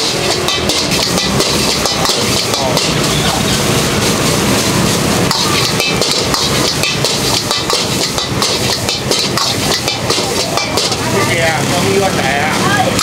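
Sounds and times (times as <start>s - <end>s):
gas burner roaring: 0.0s - 13.0s
metal utensils scraping a wok: 0.0s - 13.0s
rice sizzling: 0.0s - 13.0s.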